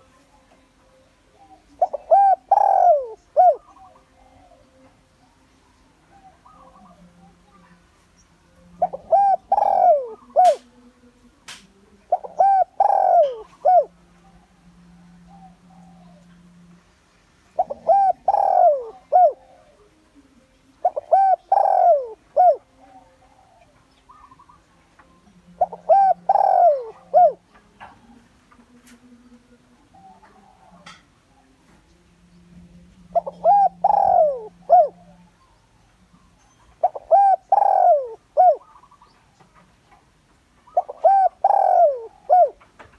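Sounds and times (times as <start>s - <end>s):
dove cooing: 0.0s - 7.8s, 8.5s - 10.9s, 11.5s - 16.8s, 17.4s - 39.9s, 40.6s - 42.9s.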